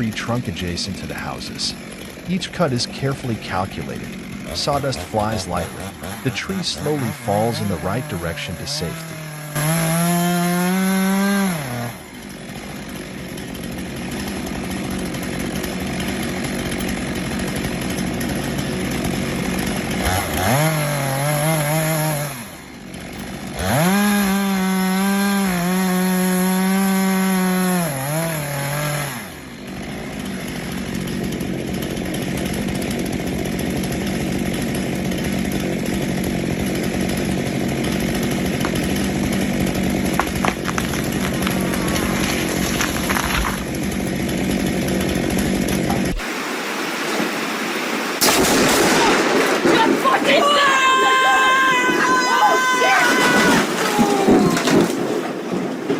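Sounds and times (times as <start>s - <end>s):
chainsaw running: 0.0s - 47.6s, 48.2s - 55.9s
chainsaw cutting wood: 0.0s - 55.9s.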